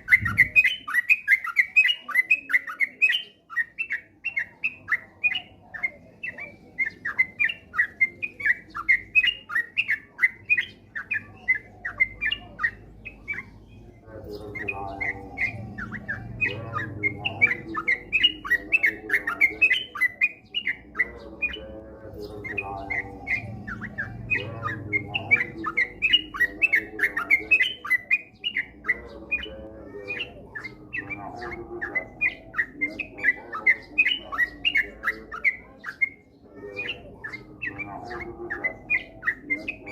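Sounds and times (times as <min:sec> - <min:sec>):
bird singing fast chirps: 0:00.0 - 0:39.9
low rough chatter: 0:00.0 - 0:39.9.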